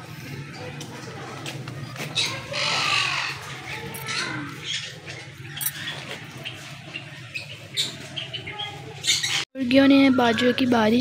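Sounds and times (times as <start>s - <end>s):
birds squawking: 1.7s - 11.0s.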